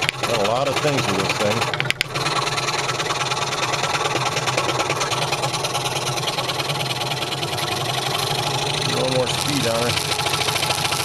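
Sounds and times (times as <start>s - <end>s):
scroll saw blade chattering: 0.0s - 11.0s.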